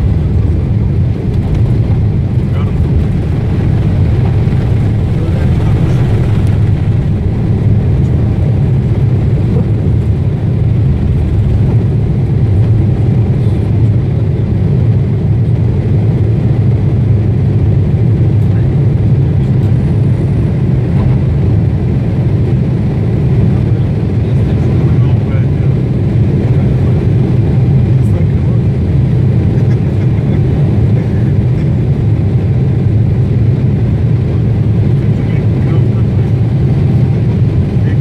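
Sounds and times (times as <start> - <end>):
jet engines rumbling in cabin: 0.0 - 38.0.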